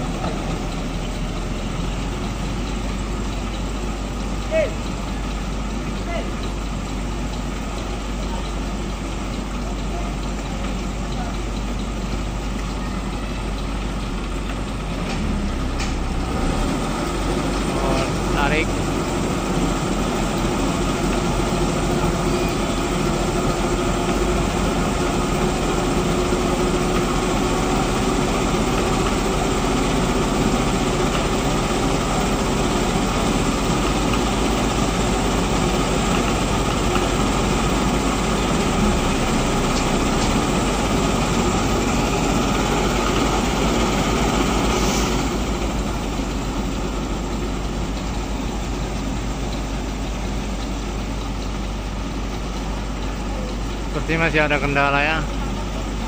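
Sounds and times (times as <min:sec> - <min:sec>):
truck diesel engines running: 0:00.0 - 0:56.0.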